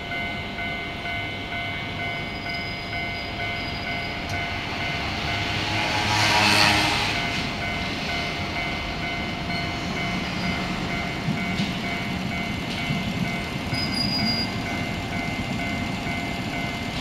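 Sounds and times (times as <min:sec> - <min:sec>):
level-crossing warning bell ringing: 0:00.0 - 0:17.0
low rumble of train: 0:00.0 - 0:17.0.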